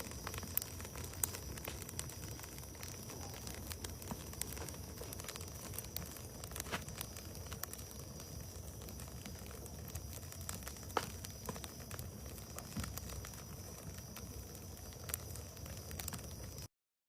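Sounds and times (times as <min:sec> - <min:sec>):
bonfire crackling and popping: 0:00.0 - 0:16.7.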